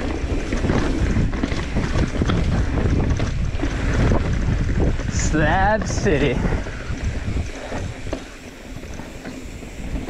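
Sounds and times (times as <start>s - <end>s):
bike knocking and rattling: 0.0s - 10.0s
bike tyres rolling over ground: 0.0s - 10.0s
wind rushing over microphone: 0.0s - 10.0s.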